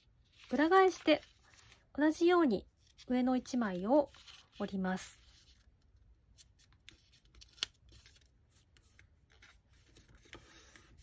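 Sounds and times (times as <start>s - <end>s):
paper crinkling being folded: 0.0s - 2.1s, 2.7s - 11.0s.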